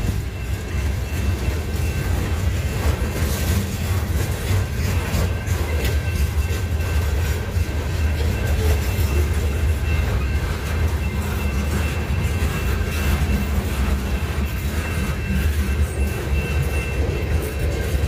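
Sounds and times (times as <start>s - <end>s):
freight train rumbling: 0.0s - 18.0s
wheels clicking over rail joints: 0.0s - 18.0s.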